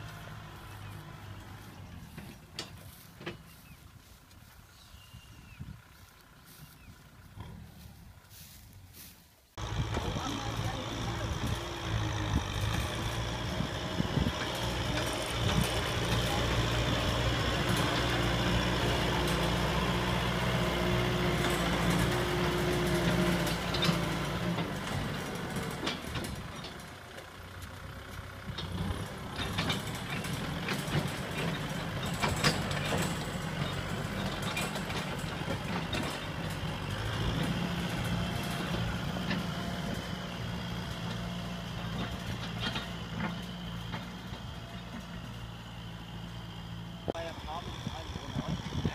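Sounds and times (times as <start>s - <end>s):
tractor diesel engine droning: 0.0s - 48.9s.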